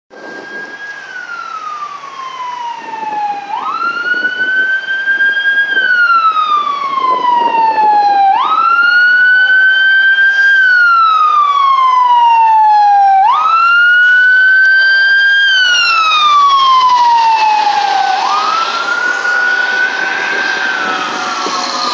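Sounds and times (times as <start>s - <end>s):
fire truck siren wailing: 0.1s - 21.9s.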